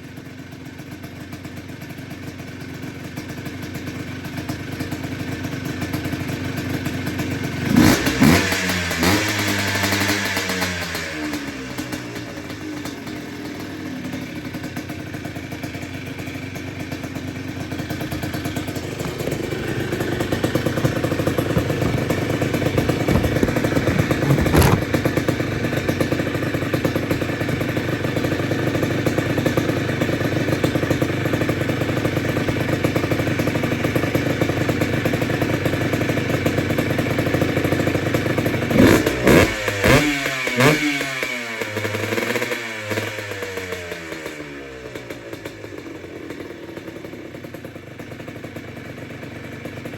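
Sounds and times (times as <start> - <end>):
two-stroke engine idling and revving: 0.0 - 49.9.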